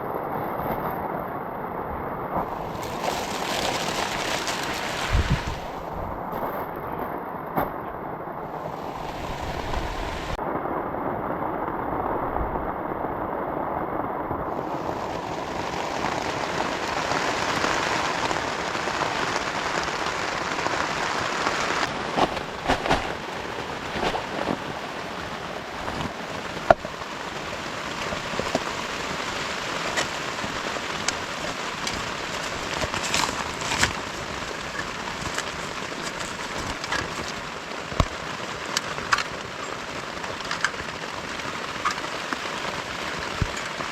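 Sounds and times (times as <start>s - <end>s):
sharp raindrops striking close by: 0.0s - 7.8s, 8.4s - 43.9s
heavy rain falling: 0.0s - 43.9s.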